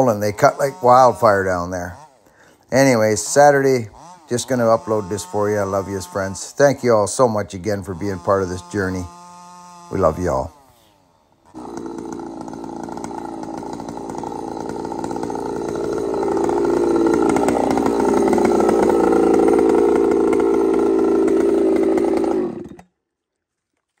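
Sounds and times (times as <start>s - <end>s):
chainsaw running: 0.0s - 22.9s.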